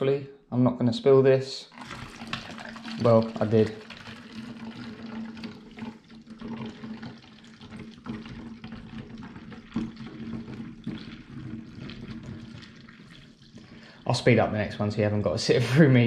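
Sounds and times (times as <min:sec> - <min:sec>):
liquid trickling into plastic bottle: 0:01.7 - 0:14.8.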